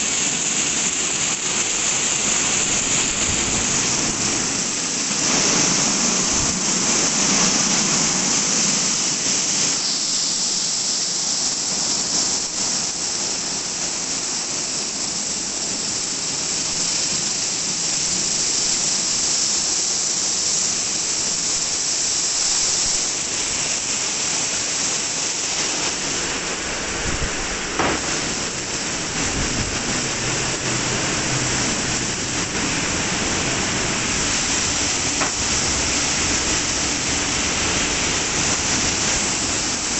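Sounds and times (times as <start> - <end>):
water jets spraying: 0.0 - 39.9.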